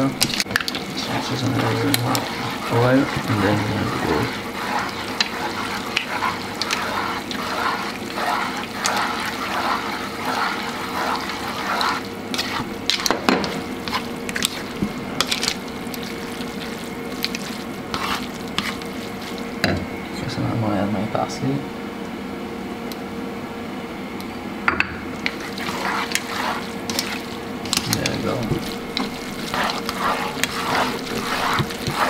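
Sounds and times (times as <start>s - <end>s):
metal tongs scraping a pan: 0.0s - 19.5s, 25.2s - 32.0s
sauce sizzling in a frying pan: 0.0s - 19.7s, 25.1s - 32.0s.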